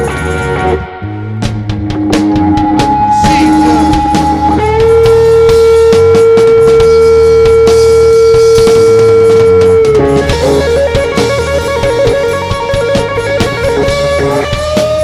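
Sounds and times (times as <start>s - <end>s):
electric guitar notes: 0.0s - 15.0s
live rock band playing: 0.0s - 15.0s.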